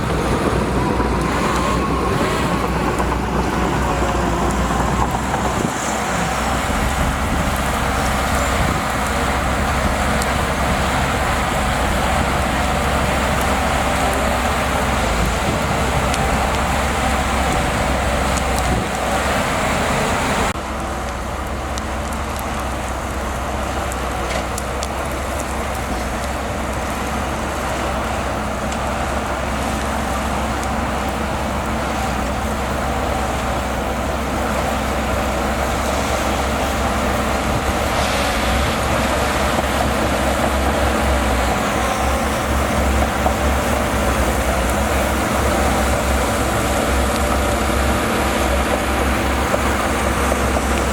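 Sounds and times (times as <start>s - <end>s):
bulldozer diesel engine rumbling: 0.0s - 50.9s.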